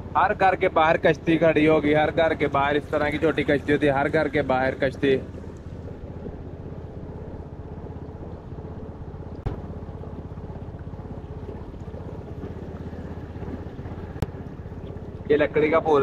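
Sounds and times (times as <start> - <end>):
motorboat engine puttering: 0.0 - 16.0.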